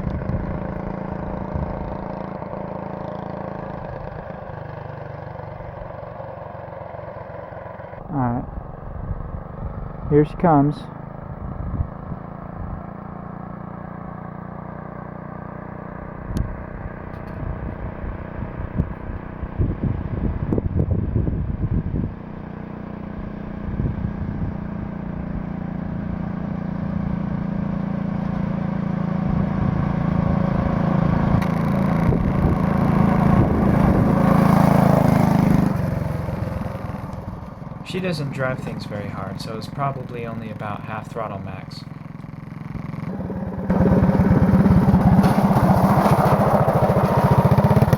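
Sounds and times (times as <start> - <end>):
small muffled gasoline engine: 0.0 - 47.9.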